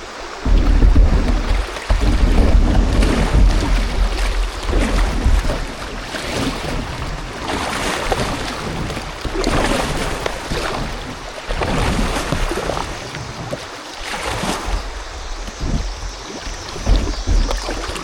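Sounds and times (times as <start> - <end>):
rushing river water: 0.0 - 18.0
wind buffeting microphone: 0.0 - 18.0.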